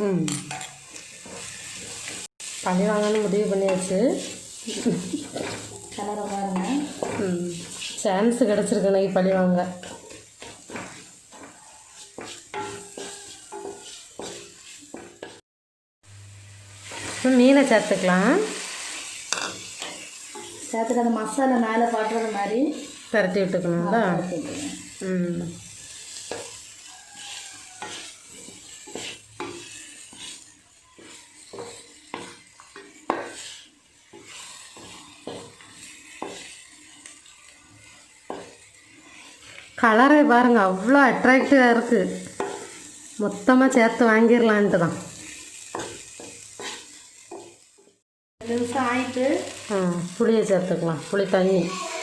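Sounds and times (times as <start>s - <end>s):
frying sizzle: 0.0s - 15.4s, 16.0s - 52.0s
spoon scraping a pan: 0.2s - 15.4s, 16.8s - 48.0s.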